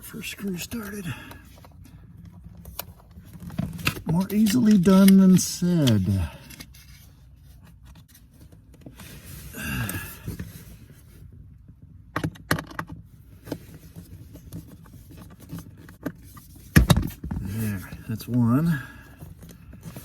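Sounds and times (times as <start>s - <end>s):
faint scraping and rustling: 0.0s - 11.4s, 13.2s - 20.0s.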